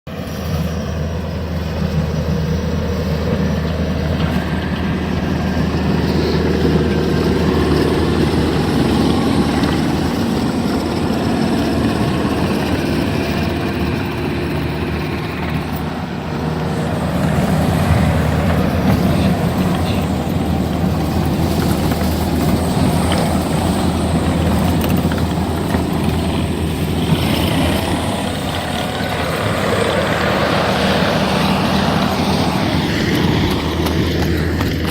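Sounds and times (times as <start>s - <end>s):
skid steer engine running: 0.1s - 34.9s.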